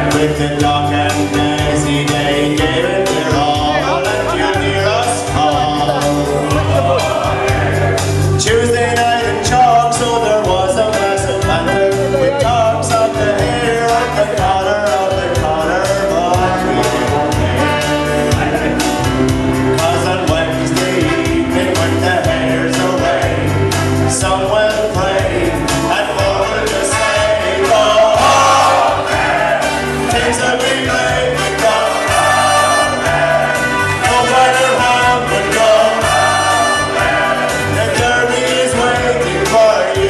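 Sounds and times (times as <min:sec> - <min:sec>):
backing music with steady beat: 0:00.0 - 0:40.0
men singing together: 0:00.0 - 0:40.0.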